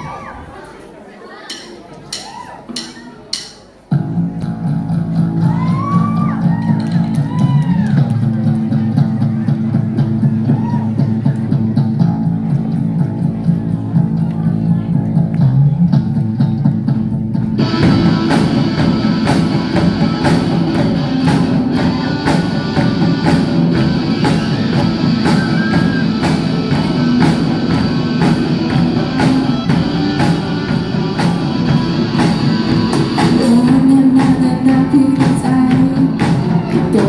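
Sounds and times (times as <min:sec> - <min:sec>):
drum kit: 0:01.5 - 0:37.0
bass guitar: 0:02.1 - 0:37.0
electric guitars: 0:03.9 - 0:37.0.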